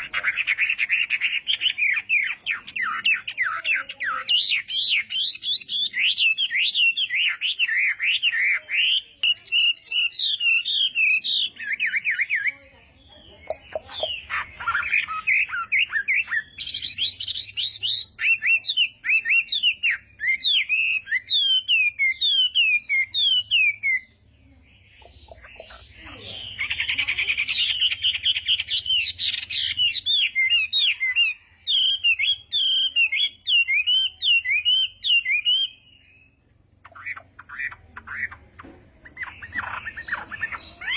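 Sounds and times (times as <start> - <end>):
bird singing whistled notes: 0.0 - 12.6, 13.2 - 24.2, 24.8 - 37.1.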